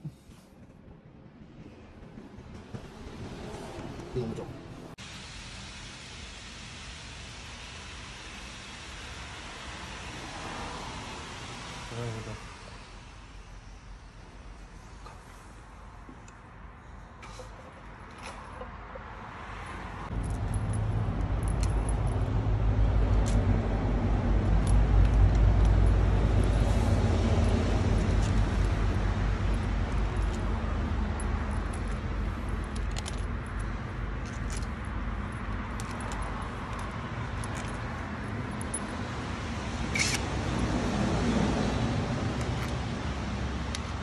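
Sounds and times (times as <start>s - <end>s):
low engine rumble: 0.0s - 44.0s.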